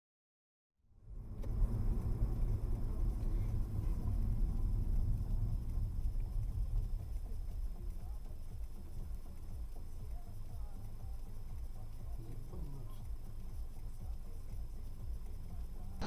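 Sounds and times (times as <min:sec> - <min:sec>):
moving vehicle rumble: 0:00.9 - 0:16.0.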